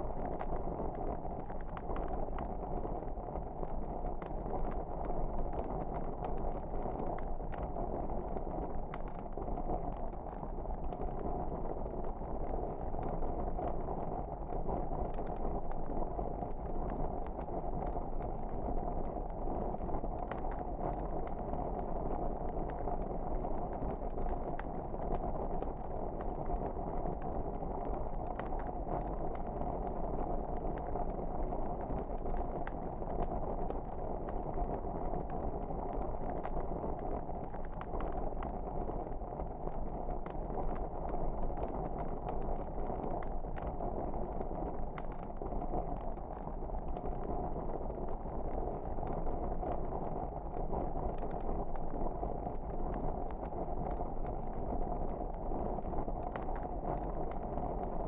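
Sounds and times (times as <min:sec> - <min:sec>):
fireplace fire crackling: 0:00.1 - 0:58.0.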